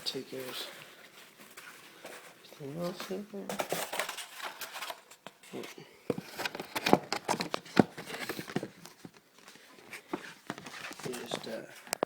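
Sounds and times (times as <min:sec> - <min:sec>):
packing materials rustling: 0:00.0 - 0:12.0.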